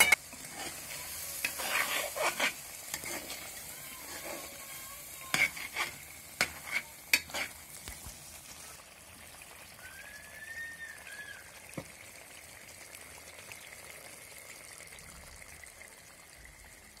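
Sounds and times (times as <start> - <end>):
gravy simmering and sizzling: 0.0 - 17.0.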